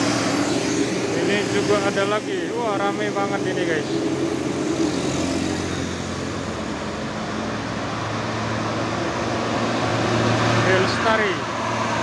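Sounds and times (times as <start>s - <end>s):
diesel coach engine pulling uphill: 0.0s - 12.0s
motorcycle passing: 0.0s - 12.0s.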